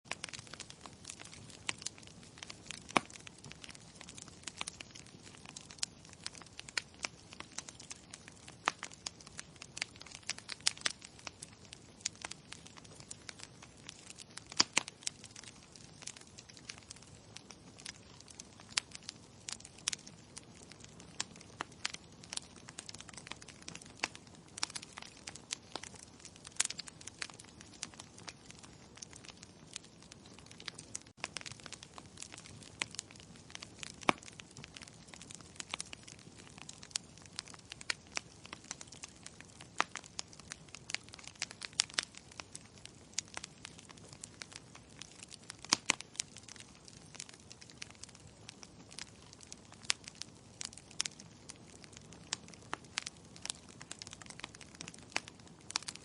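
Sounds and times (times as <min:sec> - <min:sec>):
wood logs crackling and popping: 0:00.0 - 0:56.0.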